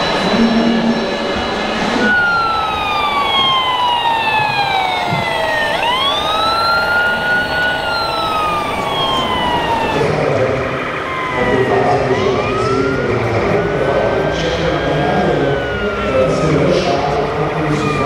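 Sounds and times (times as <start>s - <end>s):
steady background noise: 0.0s - 18.0s
wailing toy siren: 0.0s - 18.0s.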